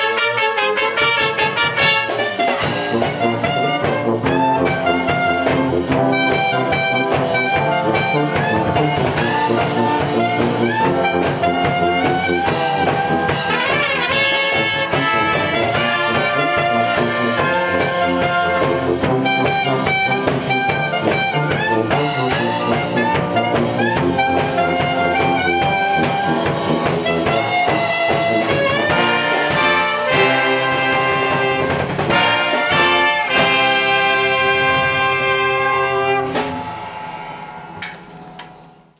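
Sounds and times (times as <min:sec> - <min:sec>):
brass band playing: 0:00.0 - 0:38.9.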